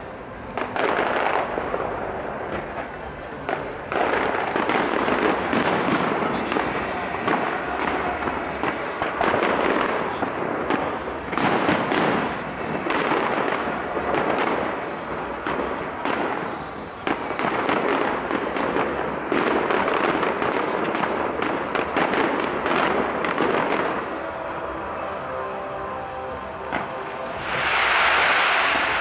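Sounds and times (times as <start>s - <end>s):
fireworks popping and crackling: 0.0s - 29.0s.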